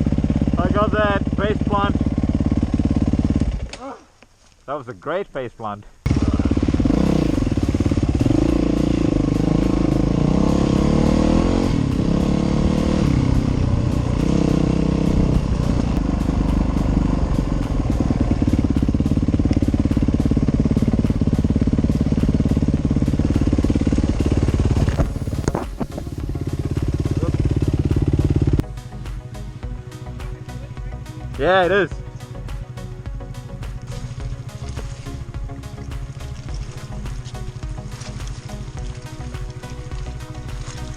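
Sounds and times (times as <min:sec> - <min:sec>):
dirt bike engine revving: 0:00.0 - 0:03.7, 0:06.1 - 0:28.6, 0:33.7 - 0:40.9.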